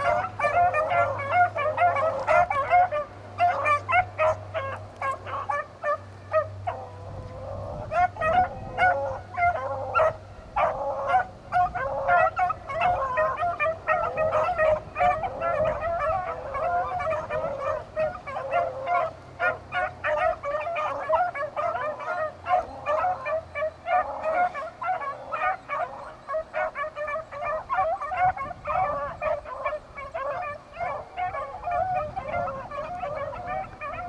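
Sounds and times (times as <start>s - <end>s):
hounds baying: 0.0s - 34.0s.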